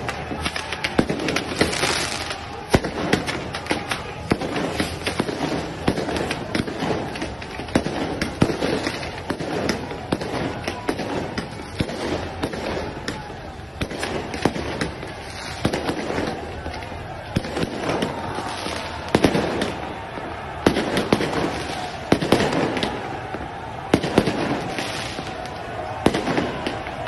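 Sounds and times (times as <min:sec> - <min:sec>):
crowd din: 0:00.0 - 0:27.0
firecrackers banging: 0:00.0 - 0:27.0.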